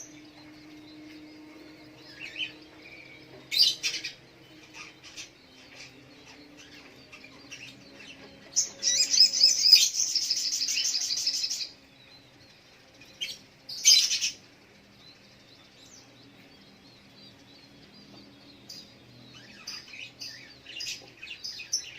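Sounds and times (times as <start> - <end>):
bird singing chirps and trills: 0.0 - 21.9.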